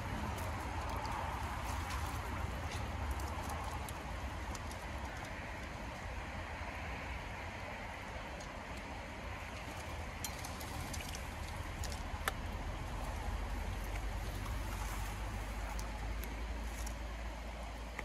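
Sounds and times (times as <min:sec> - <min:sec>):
steady low rumble: 0:00.0 - 0:18.0
water sloshing and splashing: 0:00.0 - 0:18.0.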